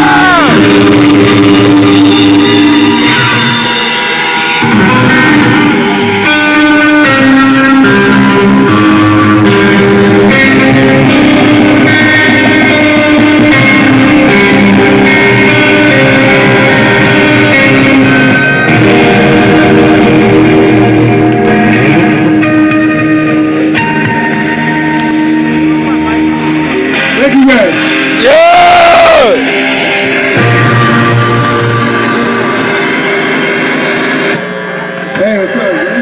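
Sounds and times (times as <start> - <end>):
distorted electric guitars: 0.0 - 36.0
rock drums: 0.0 - 36.0.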